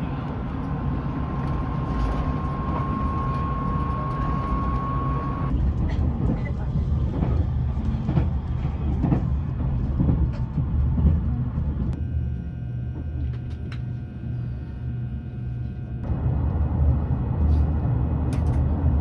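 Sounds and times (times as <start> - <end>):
train carriage rumbling: 0.0 - 19.0.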